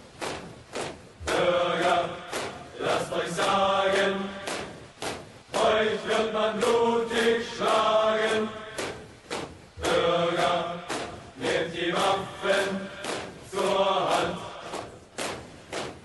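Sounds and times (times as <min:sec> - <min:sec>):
steady drum beat: 0:00.0 - 0:16.0
choir chanting: 0:01.2 - 0:04.9, 0:05.5 - 0:09.0, 0:09.8 - 0:15.8.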